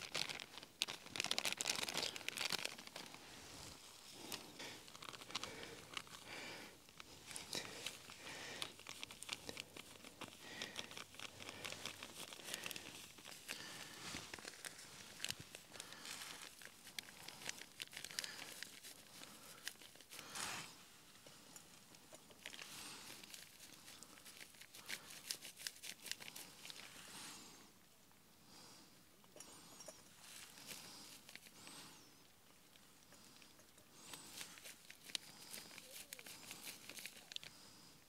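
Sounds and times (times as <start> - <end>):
plastic bag crinkling: 0.0 - 20.8, 21.4 - 27.2, 30.2 - 31.8, 34.0 - 37.6.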